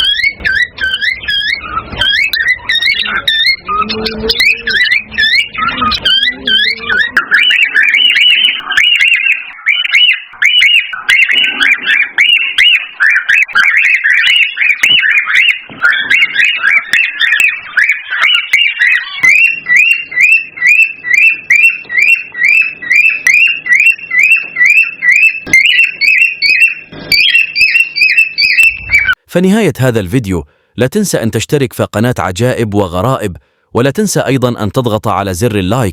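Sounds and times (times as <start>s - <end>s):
cockatiels chirping: 0.0s - 29.2s.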